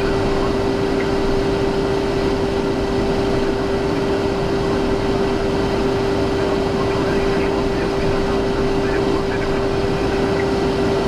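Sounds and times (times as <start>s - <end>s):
jet engine drone: 0.0s - 11.0s
steady hum: 0.0s - 11.0s.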